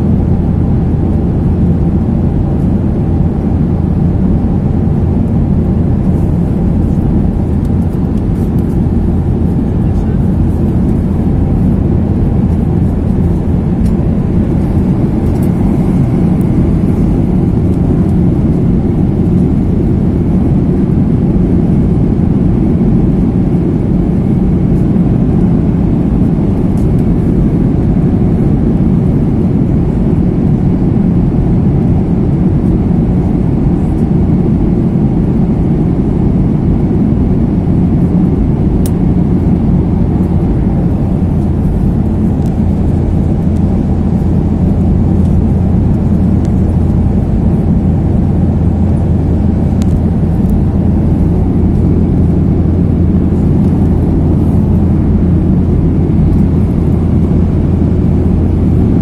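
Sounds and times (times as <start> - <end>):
jet engines and airflow rushing: 0.0 - 59.0.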